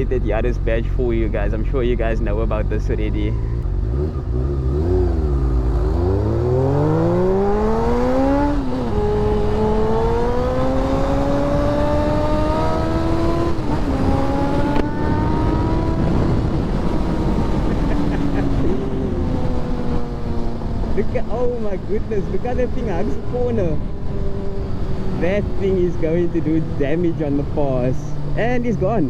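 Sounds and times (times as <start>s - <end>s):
vehicle engine accelerating hard: 0.0s - 29.0s.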